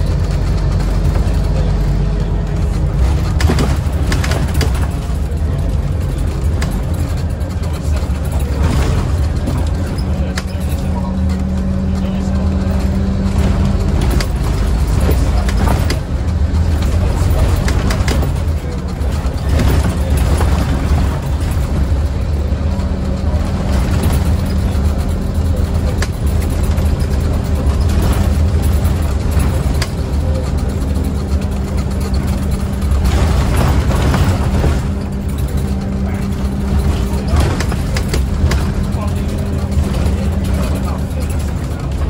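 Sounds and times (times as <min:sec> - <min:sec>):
bus engine droning: 0:00.0 - 0:42.0
interior clicks and rattles: 0:00.0 - 0:42.0
road noise: 0:00.0 - 0:42.0.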